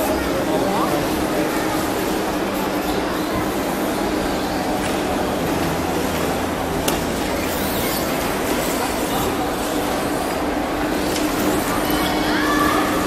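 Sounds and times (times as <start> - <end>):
crowd noise in a hall: 0.0 - 13.0.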